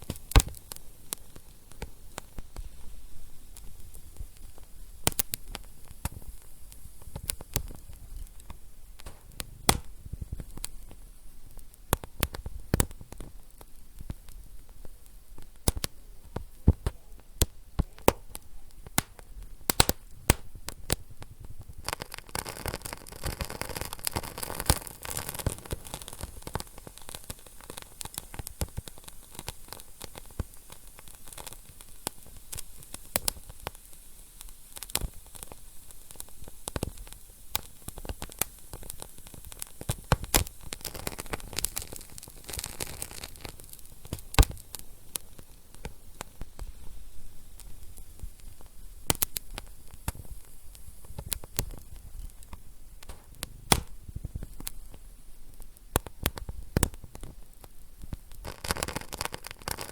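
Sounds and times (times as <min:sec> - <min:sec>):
fire hissing: 0:00.0 - 0:59.9
wood fire crackling and popping: 0:00.0 - 0:59.9.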